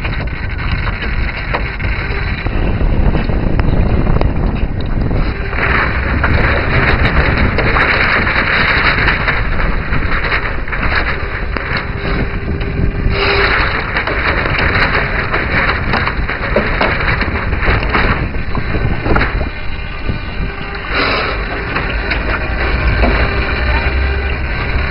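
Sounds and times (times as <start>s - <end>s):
water rushing along a hull: 0.0s - 24.9s
wind buffeting microphone: 0.0s - 24.9s.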